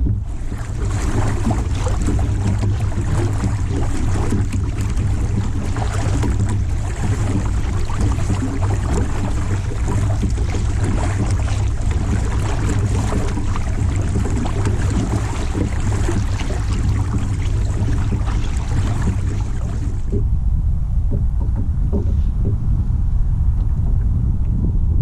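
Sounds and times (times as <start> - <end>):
water lapping and splashing: 0.0 - 20.4, 21.1 - 23.8
wind buffeting microphone: 0.0 - 25.0.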